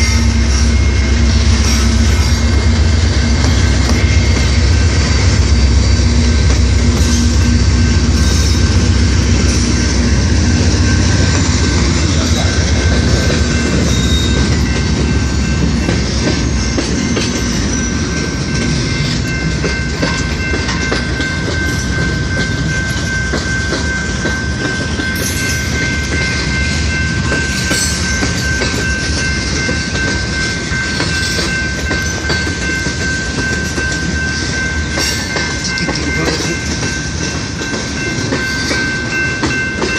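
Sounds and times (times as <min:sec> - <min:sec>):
deep train rumble: 0:00.0 - 0:39.9
train wheels clicking over rail joints: 0:00.0 - 0:39.9.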